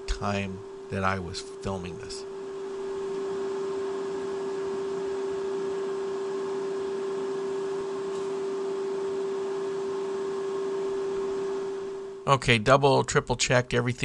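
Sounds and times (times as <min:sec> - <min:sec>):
steady pitched hum: 0:00.0 - 0:14.0.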